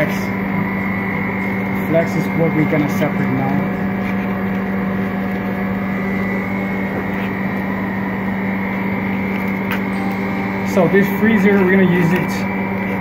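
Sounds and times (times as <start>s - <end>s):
freezer compressor and fans humming: 0.0s - 13.0s.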